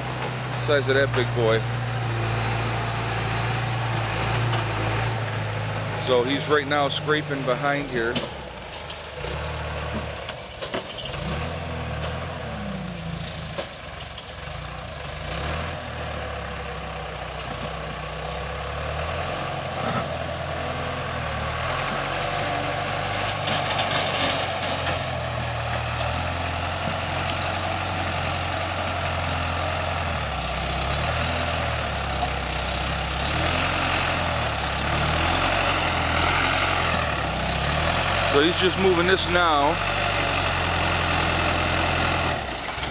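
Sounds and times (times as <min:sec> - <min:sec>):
bulldozer diesel engine: 0:00.0 - 0:42.9
bulldozer scraping soil: 0:00.0 - 0:42.9.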